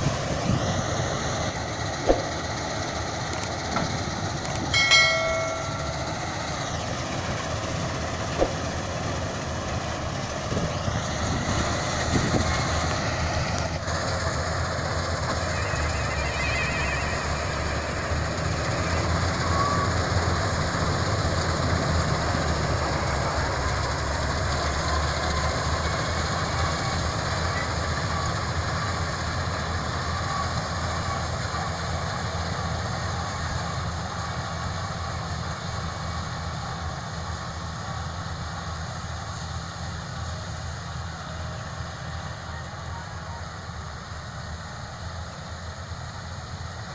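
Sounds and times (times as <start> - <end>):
combine harvester engine drone: 0.0 - 46.9.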